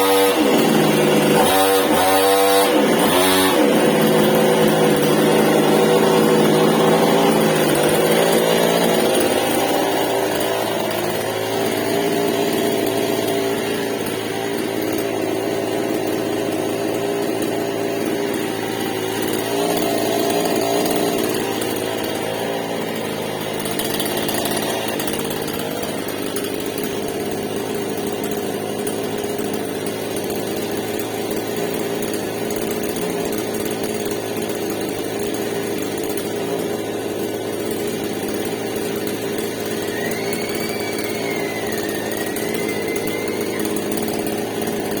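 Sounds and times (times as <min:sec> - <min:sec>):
chainsaw running: 0:00.0 - 0:45.0.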